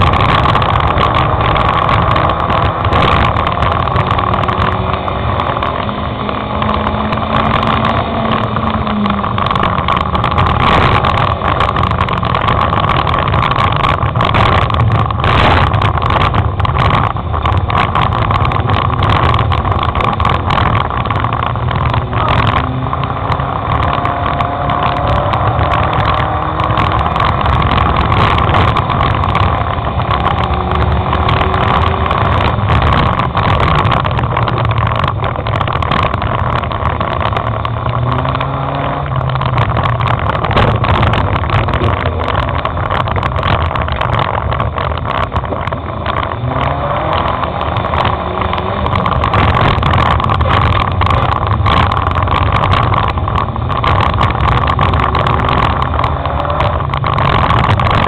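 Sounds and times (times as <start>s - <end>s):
knocks and rattles: 0.0s - 58.0s
race car engine revving: 0.0s - 58.0s.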